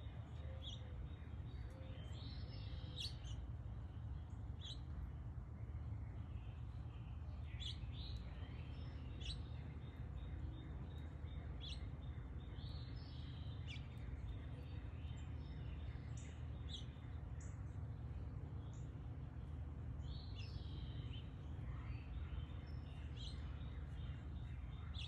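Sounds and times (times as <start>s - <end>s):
low background rumble: 0.0s - 25.0s
small birds chirping: 0.0s - 25.0s.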